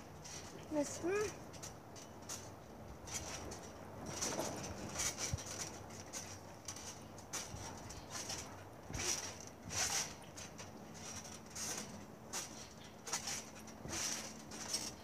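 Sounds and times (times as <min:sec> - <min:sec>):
trampoline bouncing: 0:00.0 - 0:15.0.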